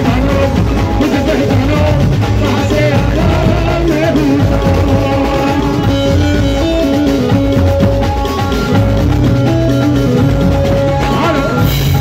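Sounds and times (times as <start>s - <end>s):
drum kit beat: 0.0s - 12.0s
live band playing: 0.0s - 12.0s.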